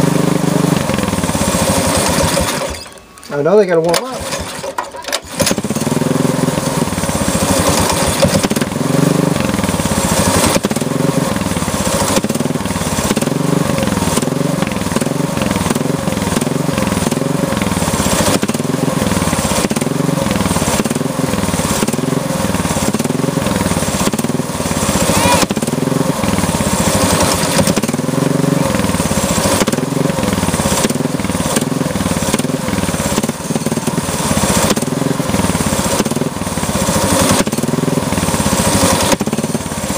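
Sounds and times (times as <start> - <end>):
small engine revs hunting: 0.0 - 39.9.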